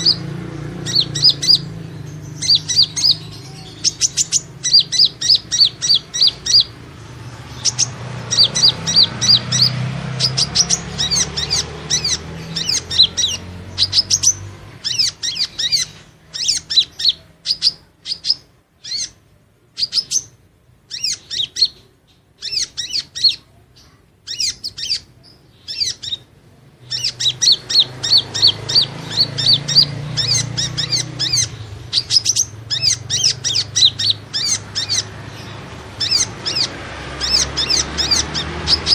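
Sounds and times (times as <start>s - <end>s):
sunbird chirping: 0.0s - 38.9s.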